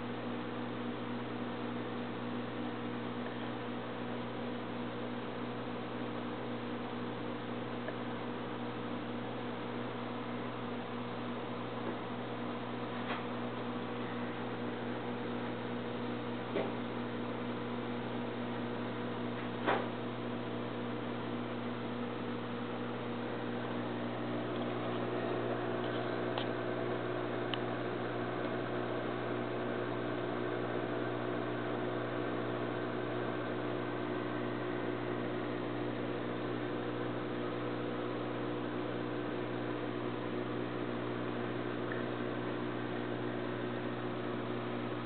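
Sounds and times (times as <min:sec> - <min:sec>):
aquarium filter pump humming: 0:00.0 - 0:45.0.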